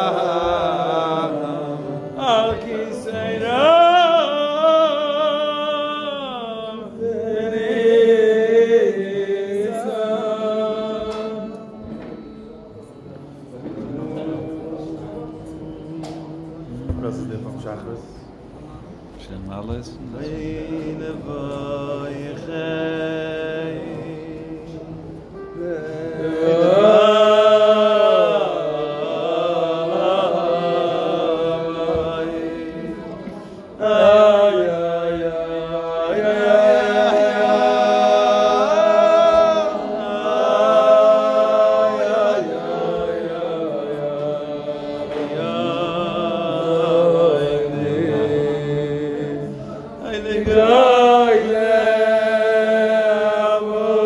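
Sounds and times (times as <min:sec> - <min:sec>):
men singing slow melody: 0:00.0 - 0:12.2, 0:20.0 - 0:54.0.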